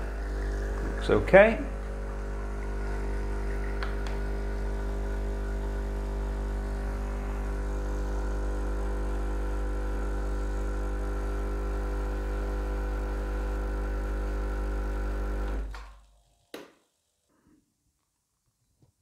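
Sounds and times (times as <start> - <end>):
espresso machine pump humming: 0.0 - 15.7.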